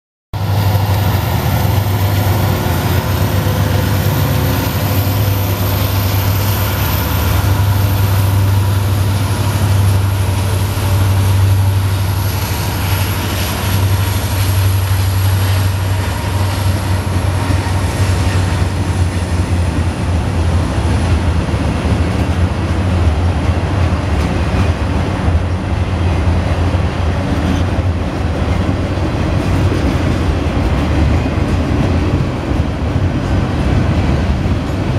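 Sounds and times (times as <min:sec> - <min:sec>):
diesel locomotive: 0:00.4 - 0:34.9
freight cars rumbling on rails: 0:00.4 - 0:34.9.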